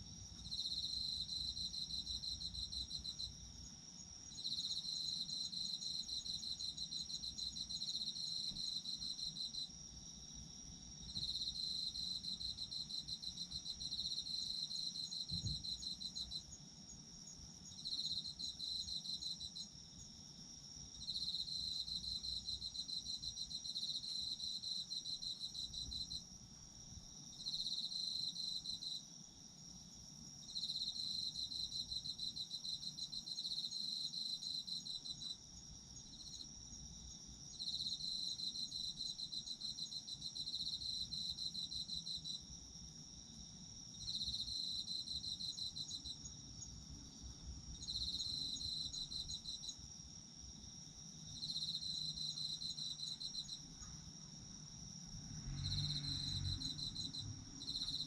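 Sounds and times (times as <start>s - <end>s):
cricket continuous high trill: 0.0s - 58.0s
cricket pulsing chirps: 0.0s - 58.0s.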